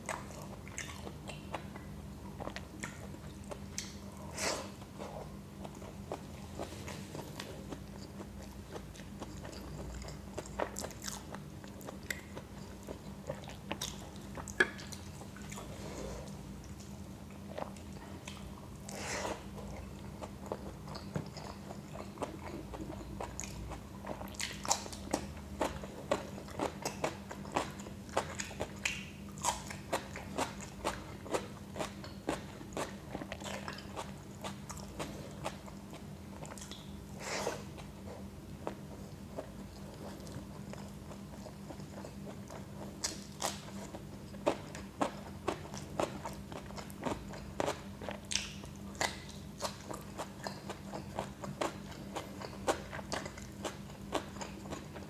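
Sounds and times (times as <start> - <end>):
person chewing and crunching: 0.0 - 55.0.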